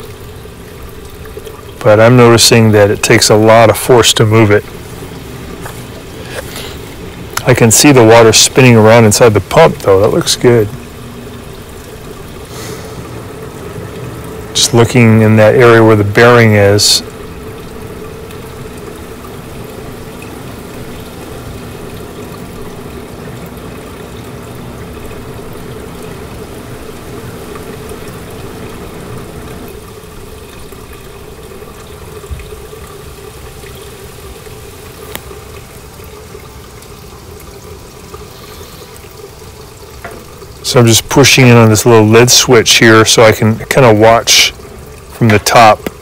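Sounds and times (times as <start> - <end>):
washer motor hum: 0.0 - 46.0
water rushing through drain pump: 0.0 - 46.0.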